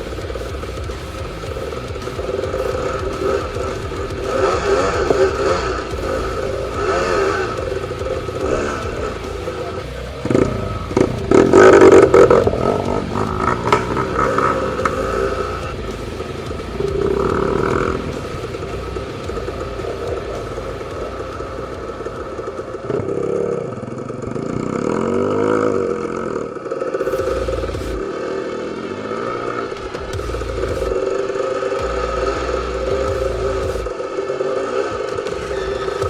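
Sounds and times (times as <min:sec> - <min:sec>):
bike rattling: 0:00.0 - 0:31.7
dirt bike engine revving: 0:00.0 - 0:36.0.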